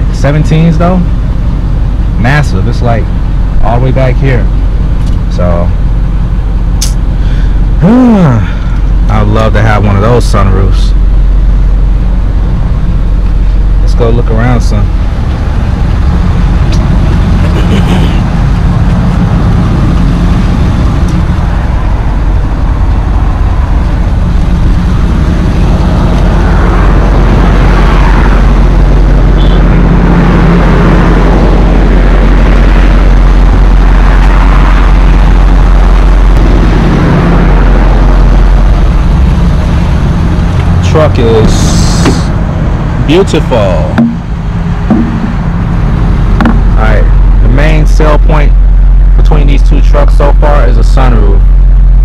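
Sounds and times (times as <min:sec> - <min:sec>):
diesel truck engine idling: 0:00.0 - 0:52.0.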